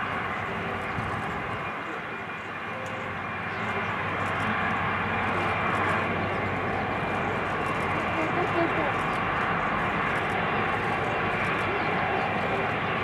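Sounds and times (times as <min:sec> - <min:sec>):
jet engines running at low power: 0:00.0 - 0:13.0.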